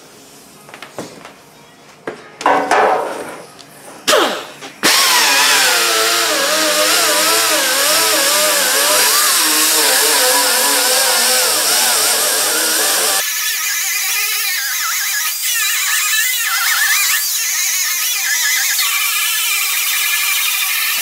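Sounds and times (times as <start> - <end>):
die grinder stripping paint: 4.1 - 21.0.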